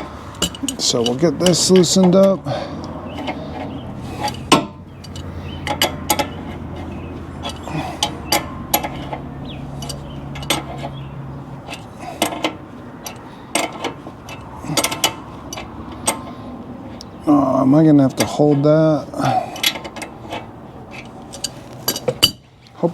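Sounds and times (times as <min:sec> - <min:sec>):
wrench clicking and clinking on metal: 0:00.0 - 0:11.0, 0:11.6 - 0:16.4, 0:18.0 - 0:22.8.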